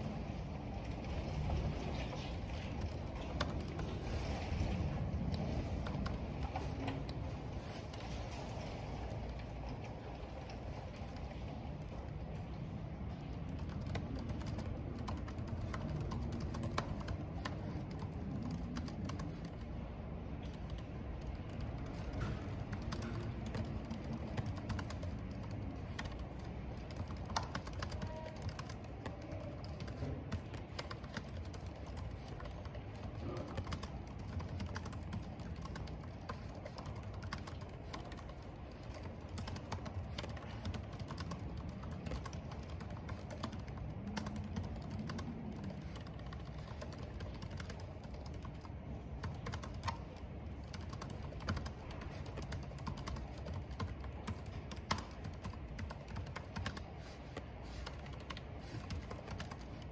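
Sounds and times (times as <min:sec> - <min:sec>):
wind and rain: 0:00.0 - 0:59.9
computer keyboard typing: 0:01.2 - 0:08.7, 0:13.1 - 0:59.9.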